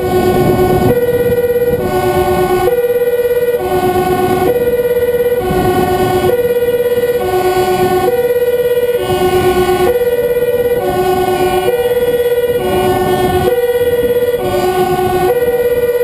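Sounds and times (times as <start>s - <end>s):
truck engine and road noise: 0.0s - 16.0s
two-tone fire engine siren: 0.0s - 16.0s.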